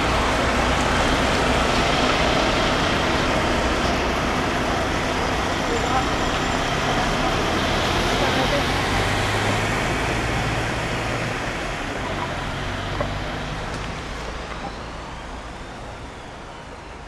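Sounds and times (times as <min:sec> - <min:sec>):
low engine hum: 0:00.0 - 0:17.0
outdoor street noise: 0:00.0 - 0:17.0.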